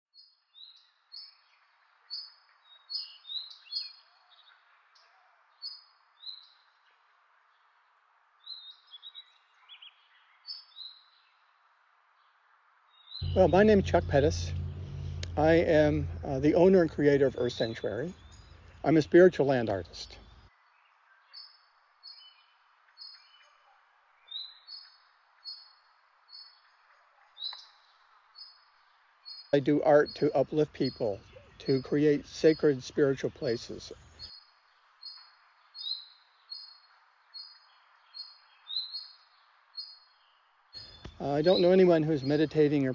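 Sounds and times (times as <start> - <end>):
wild birds chirping: 0.2 - 42.9
faint steady hiss: 4.2 - 42.9.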